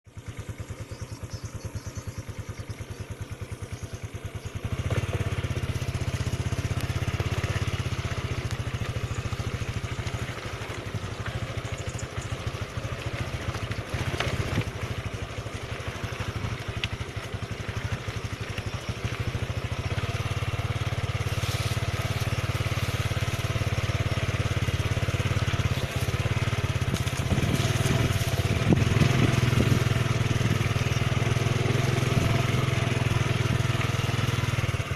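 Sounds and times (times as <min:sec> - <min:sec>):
motorcycle engine running: 0:00.0 - 0:34.9
road and wind noise: 0:00.3 - 0:34.9.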